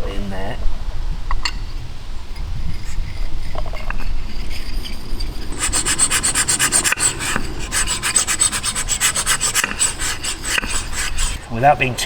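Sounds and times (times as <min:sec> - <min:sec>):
metal-on-metal rubbing: 0:01.3 - 0:11.8.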